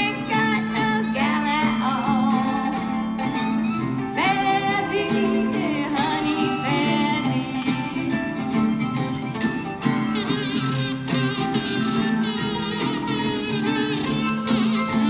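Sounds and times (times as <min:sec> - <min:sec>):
harmonica melody: 0:00.0 - 0:15.0
mandolin: 0:00.0 - 0:15.0
strummed guitar: 0:00.0 - 0:15.0.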